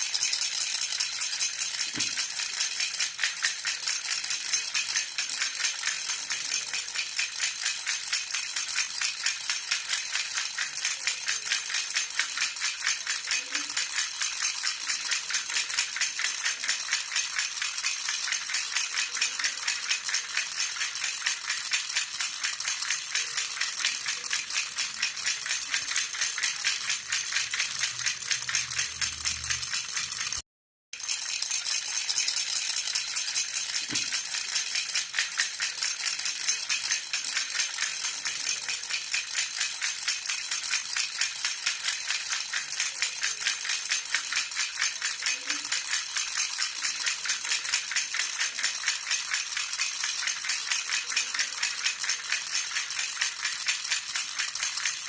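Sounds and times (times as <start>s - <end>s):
baby rattle jingling: 0.0s - 30.4s, 31.0s - 55.0s.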